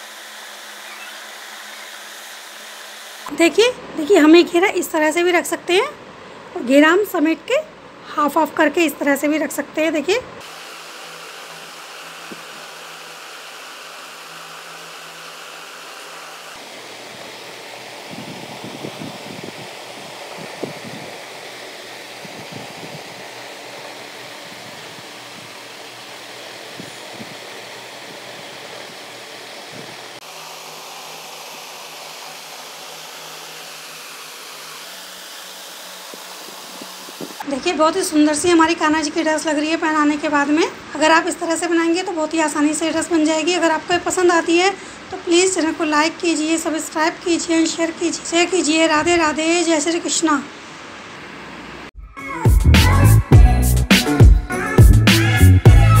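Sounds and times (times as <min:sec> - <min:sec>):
steady background hiss: 0:00.0 - 0:51.9
steady hum: 0:00.0 - 0:51.9
steady whooshing fan noise: 0:00.0 - 0:52.0.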